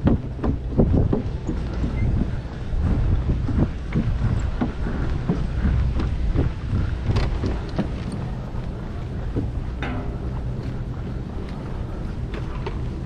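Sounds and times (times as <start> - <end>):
running footfalls: 0.0 - 13.0
wind buffeting microphone: 0.0 - 13.0.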